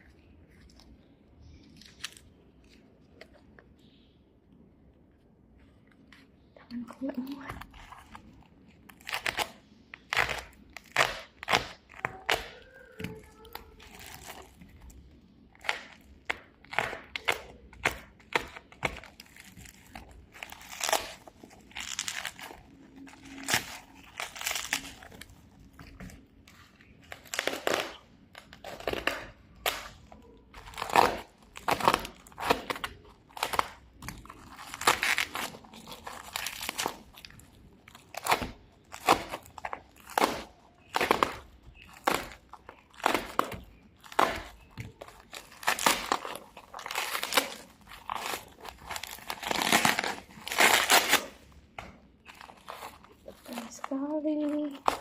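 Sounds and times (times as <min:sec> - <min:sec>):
packaging crinkling and rustling: 0:05.6 - 0:55.0.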